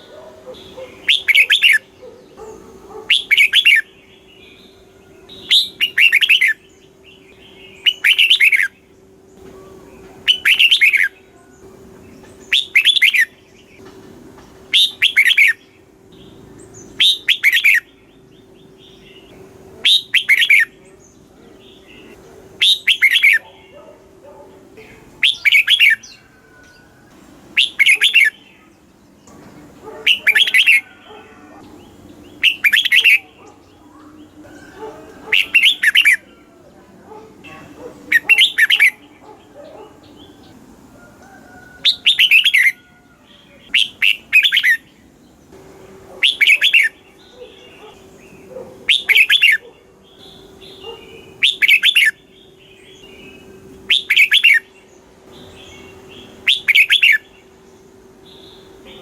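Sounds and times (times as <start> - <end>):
bulbul singing: 0.0 - 13.9, 14.5 - 59.0.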